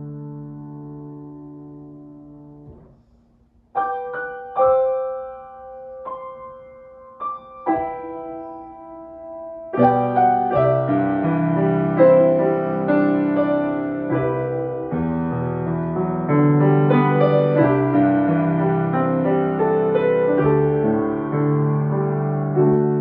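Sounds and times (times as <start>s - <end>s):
grand piano playing hymn: 0.0s - 23.0s.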